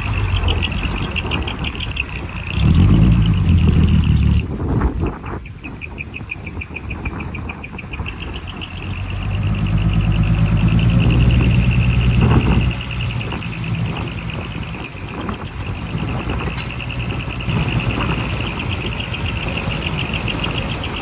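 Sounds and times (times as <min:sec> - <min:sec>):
high-pitched ticking pulse: 0:00.0 - 0:04.5, 0:06.4 - 0:21.0
diesel engine running: 0:00.0 - 0:21.0.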